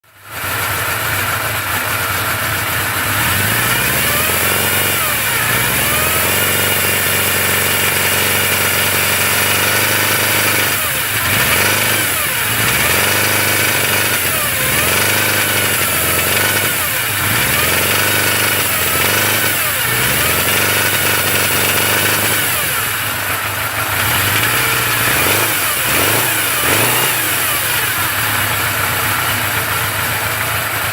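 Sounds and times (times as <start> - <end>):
motorcycle engine revving: 0.0 - 30.9
engine whine: 0.3 - 30.9.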